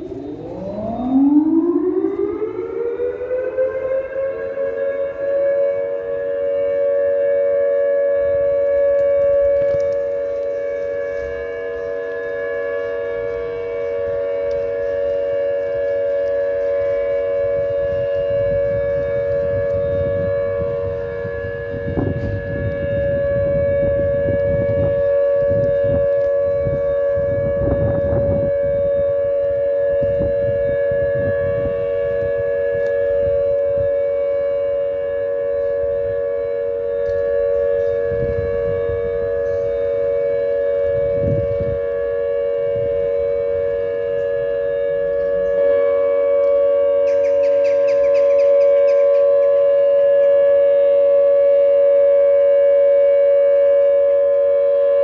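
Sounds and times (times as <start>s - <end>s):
air-raid sirens steady tone: 0.0s - 55.0s.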